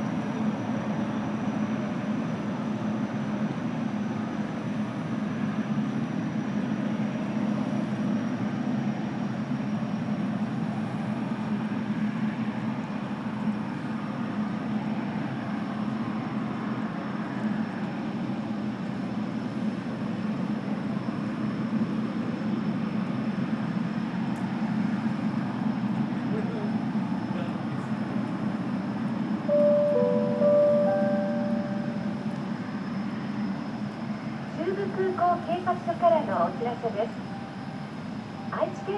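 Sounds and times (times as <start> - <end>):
high engine whine: 0.0 - 38.9
jet engines low rumble: 0.0 - 38.9.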